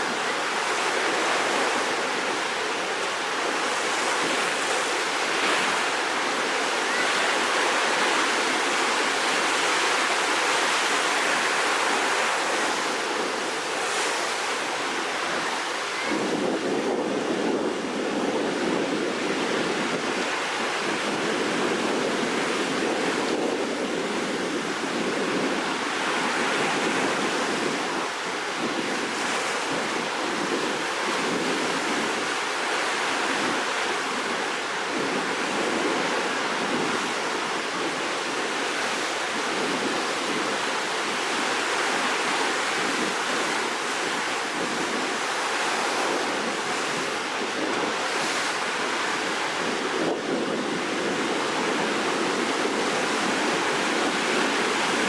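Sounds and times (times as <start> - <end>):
rough sea waves breaking: 0.0 - 55.0
wind: 0.0 - 55.0.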